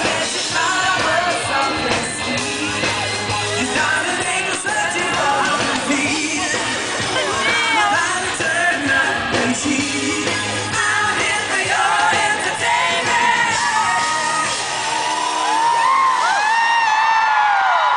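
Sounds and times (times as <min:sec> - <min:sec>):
crowd screaming and whooping: 0:00.0 - 0:09.4, 0:10.0 - 0:17.9
lead singer singing: 0:00.0 - 0:15.0
live pop-rock band: 0:00.0 - 0:17.9.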